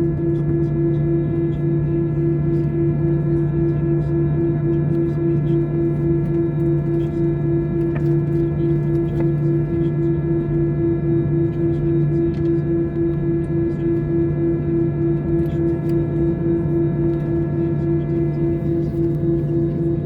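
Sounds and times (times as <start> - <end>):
airplane cabin hum: 0.0 - 20.0.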